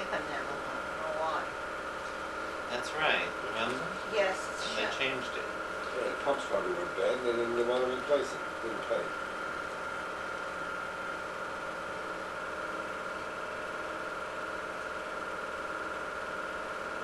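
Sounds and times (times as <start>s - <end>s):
projector high whine: 0.0s - 17.0s
projector mechanical hum: 0.0s - 17.0s.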